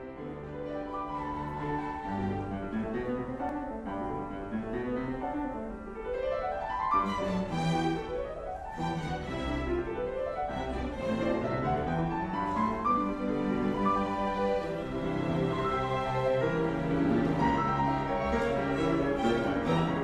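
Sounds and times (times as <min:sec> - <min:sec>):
grand piano playing: 0:00.0 - 0:20.0
string orchestra: 0:00.0 - 0:20.0.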